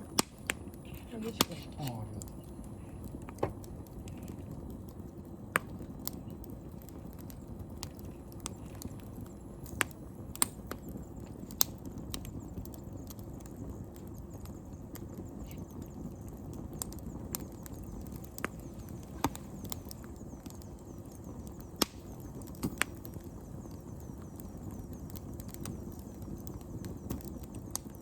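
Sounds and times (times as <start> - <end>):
low rush of burning: 0.0 - 28.0
wood fire crackling: 0.0 - 28.0.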